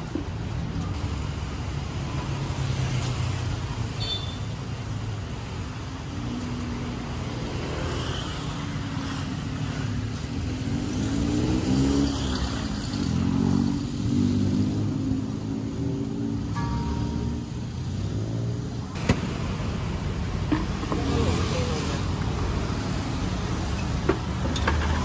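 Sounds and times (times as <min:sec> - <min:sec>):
vehicle engines passing: 0:00.0 - 0:04.0, 0:04.6 - 0:25.0.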